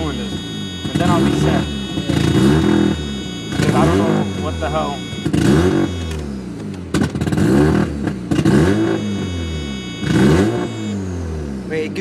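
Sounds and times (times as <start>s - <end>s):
rotary engine revving: 0.0s - 12.0s.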